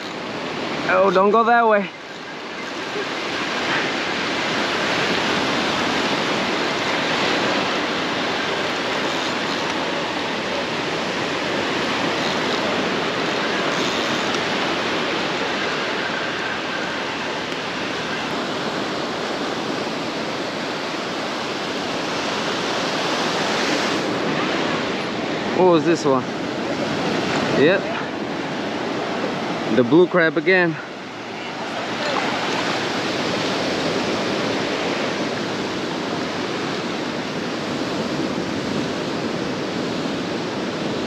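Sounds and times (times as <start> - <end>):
ocean surf breaking: 0.0 - 41.0.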